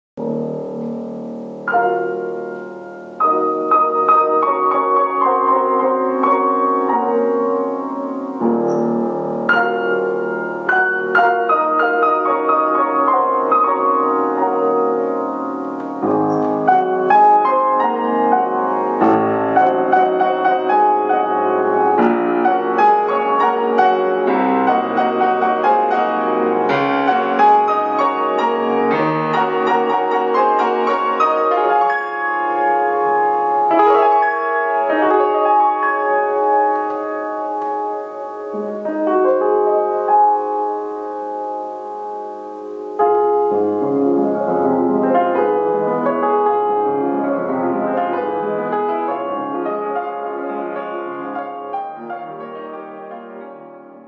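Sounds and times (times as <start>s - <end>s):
solo piano classical passage: 0.2s - 54.0s.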